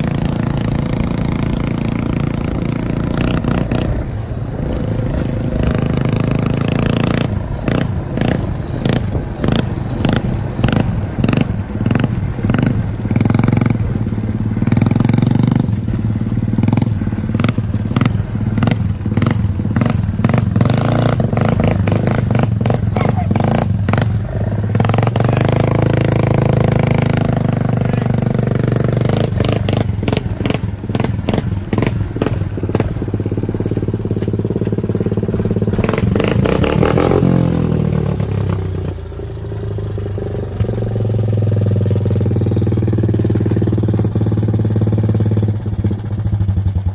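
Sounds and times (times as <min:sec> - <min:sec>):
atv engine revving and idling: 0:00.0 - 0:46.9.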